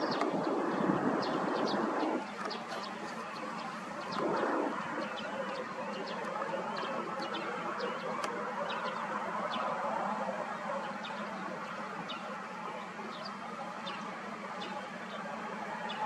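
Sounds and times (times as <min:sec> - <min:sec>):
small birds chirping: 0:00.0 - 0:09.8, 0:10.6 - 0:16.0
jet engines at low thrust: 0:00.0 - 0:16.0.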